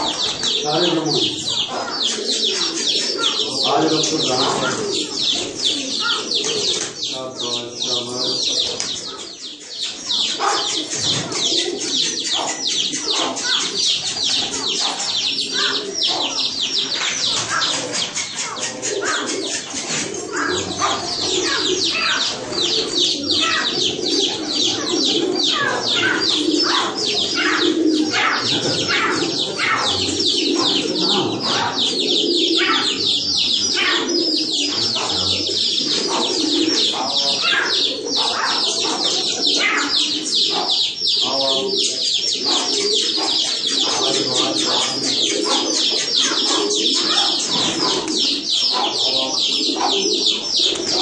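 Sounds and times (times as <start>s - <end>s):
many birds chirping: 0.0s - 51.0s
pigeons cooing: 0.0s - 51.0s.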